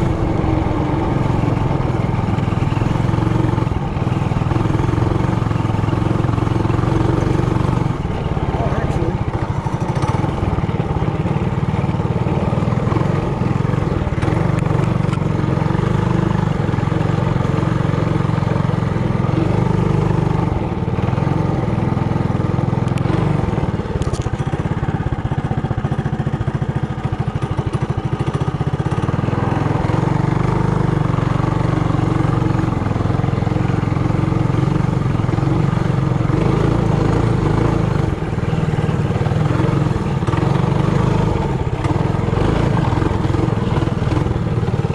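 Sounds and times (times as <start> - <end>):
mini bike engine running: 0.0 - 44.9.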